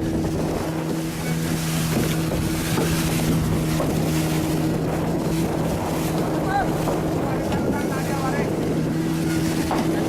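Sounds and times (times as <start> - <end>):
boat engine humming: 0.0 - 10.0
wind and water rushing: 0.0 - 10.0.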